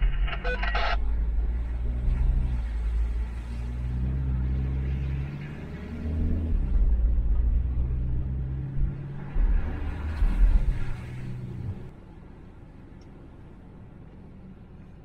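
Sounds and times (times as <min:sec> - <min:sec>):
van engine rumbling: 0:00.0 - 0:15.0.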